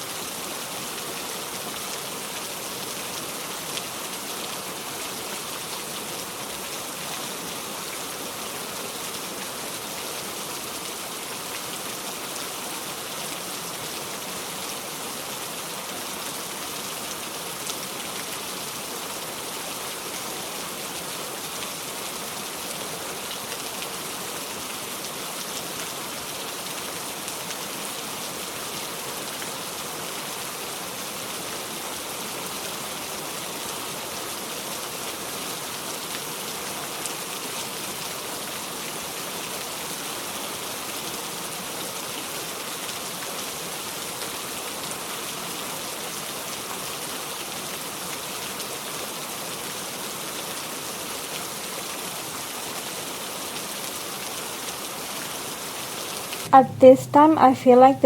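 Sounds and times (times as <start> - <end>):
steady rain: 0.0 - 57.8.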